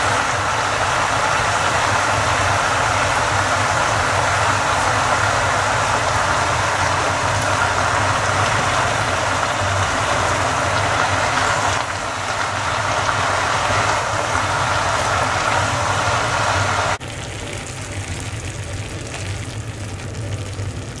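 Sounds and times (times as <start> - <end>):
greens sizzling in frying pan: 0.0 - 21.0.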